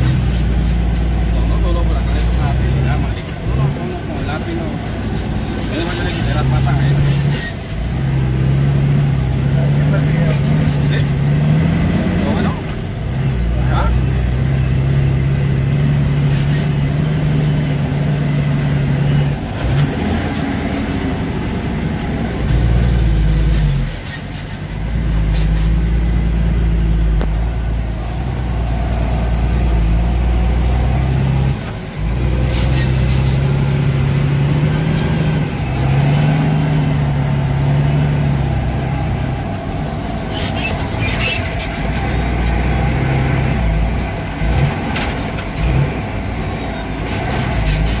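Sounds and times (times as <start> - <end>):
truck engine running under load: 0.0 - 48.0.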